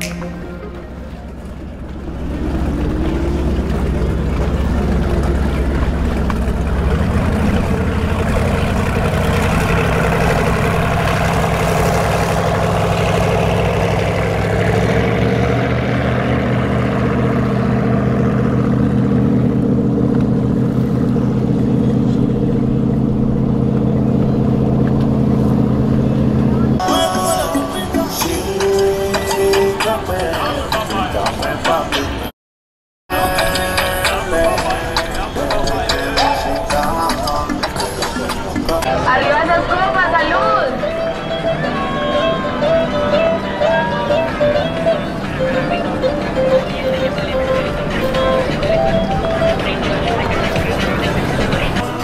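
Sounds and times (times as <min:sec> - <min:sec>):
motorboat engines droning: 0:00.0 - 0:32.3, 0:33.1 - 0:52.0.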